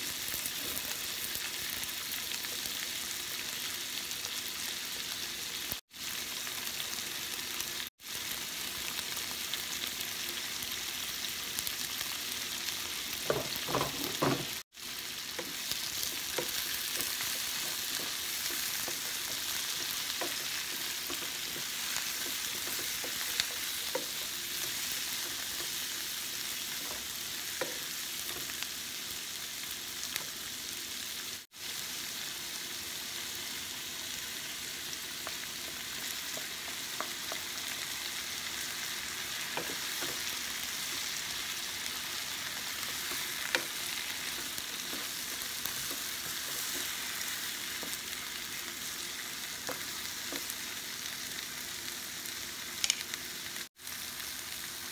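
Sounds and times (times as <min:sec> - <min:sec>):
vegetables sizzling in pan: 0:00.0 - 0:54.9.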